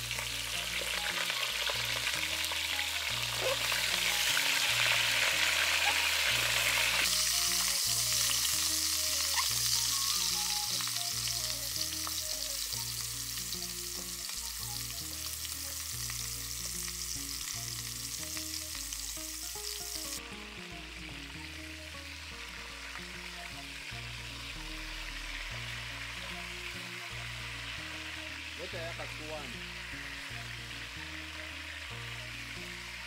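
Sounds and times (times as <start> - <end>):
potatoes sizzling in a pot: 0.0 - 33.0
soft background music: 0.0 - 33.0.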